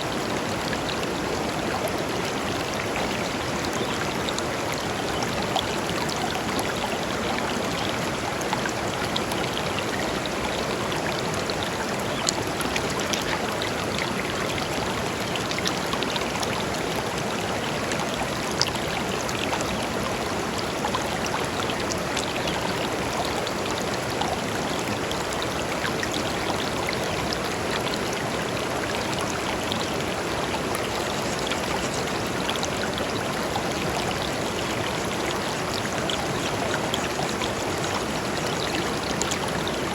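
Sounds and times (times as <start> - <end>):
river flowing over stones: 0.0 - 39.9
water splashes and trickles: 0.0 - 39.9.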